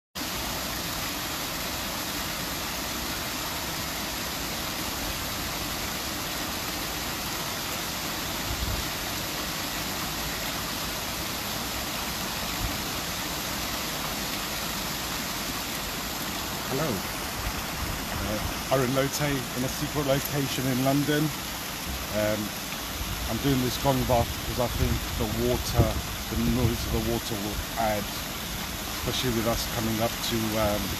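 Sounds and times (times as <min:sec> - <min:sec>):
rush of falling water: 0:00.2 - 0:30.9.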